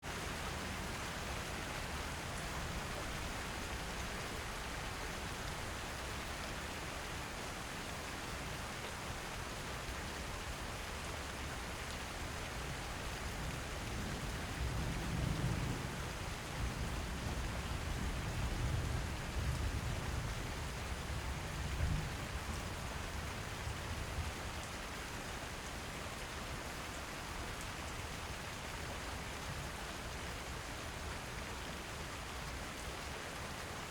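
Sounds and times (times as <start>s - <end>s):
rain falling on a roof: 0.0s - 33.9s.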